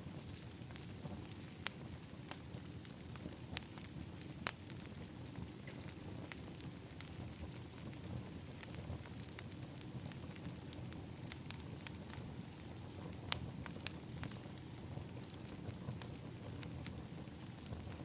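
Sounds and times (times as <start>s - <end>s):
fire crackling with sharp pops: 0.0s - 18.0s
low fire rumble: 0.0s - 18.0s.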